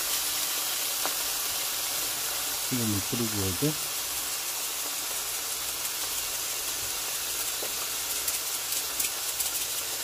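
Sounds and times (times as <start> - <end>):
salt crackling on meat: 0.0 - 10.0
steaks sizzling in a frying pan: 0.0 - 10.0.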